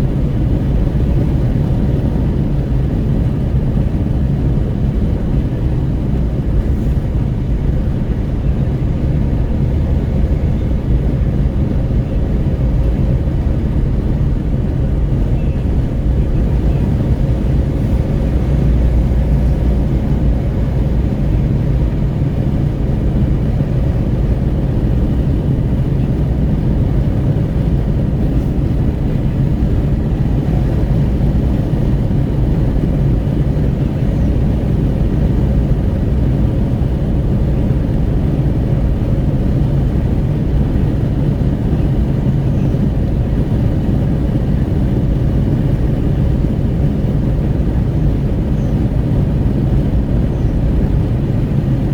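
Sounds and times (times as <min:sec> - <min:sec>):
tyre and engine drone: 0:00.0 - 0:51.9
wind buffeting at open window: 0:00.0 - 0:51.9.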